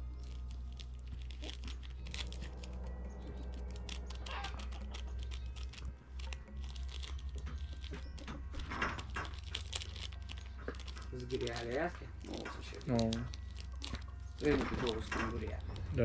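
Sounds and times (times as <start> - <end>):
seed packet crinkling: 0.0 - 16.0
steady low hum: 0.0 - 16.0.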